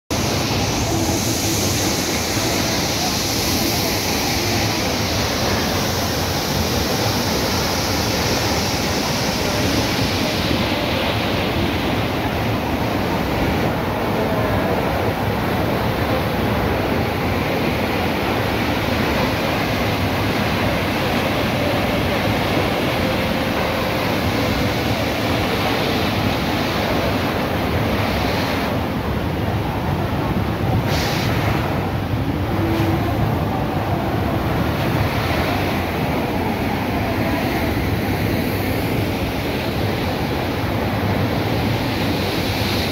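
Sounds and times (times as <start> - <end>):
waterfall rushing onto rocks: 0.1 - 37.1.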